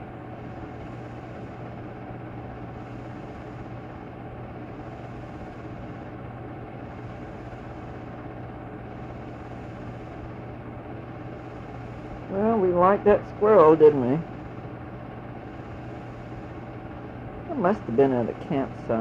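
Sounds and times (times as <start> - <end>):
film projector humming: 0.0 - 19.0.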